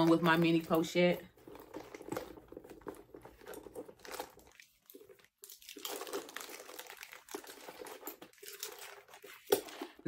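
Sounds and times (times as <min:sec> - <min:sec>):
rustling items packed into bag: 0:00.0 - 0:10.0.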